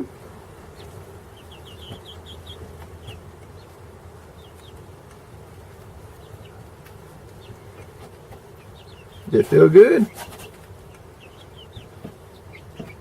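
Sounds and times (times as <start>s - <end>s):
chickens peeping: 0.0s - 13.0s
faint buzzing hum: 0.0s - 13.0s.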